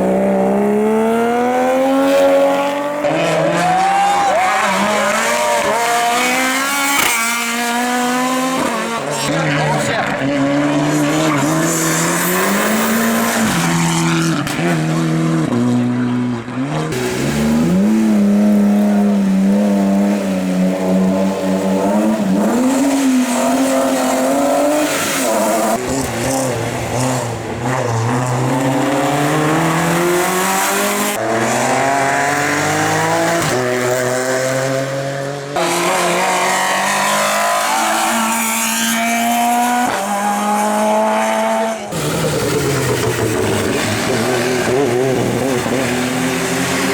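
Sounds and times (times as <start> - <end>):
racing car engines revving: 0.0 - 46.9.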